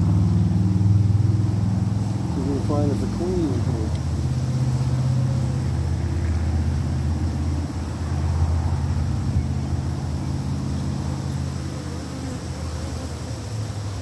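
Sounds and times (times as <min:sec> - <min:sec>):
honeybee swarm buzzing: 0:00.0 - 0:14.0.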